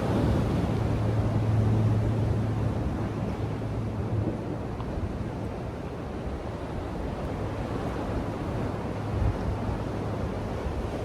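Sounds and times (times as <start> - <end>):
ocean surf: 0.0 - 11.0.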